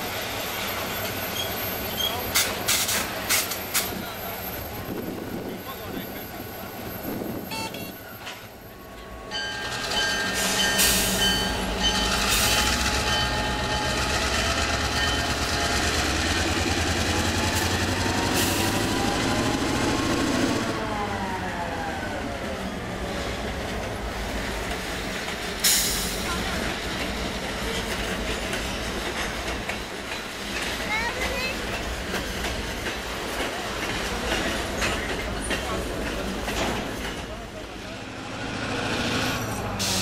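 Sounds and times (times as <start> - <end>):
diesel locomotive engine revving: 0.1 - 29.7, 31.6 - 40.0.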